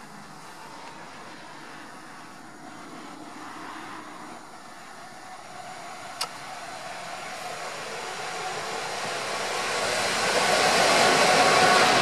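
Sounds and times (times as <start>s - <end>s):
diesel locomotive approaching: 0.0s - 12.0s.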